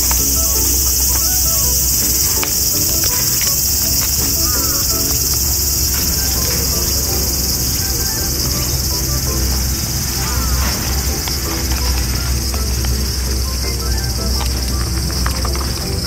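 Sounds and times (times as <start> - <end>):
background music: 0.0 - 16.0
insect chorus drone: 0.0 - 16.0.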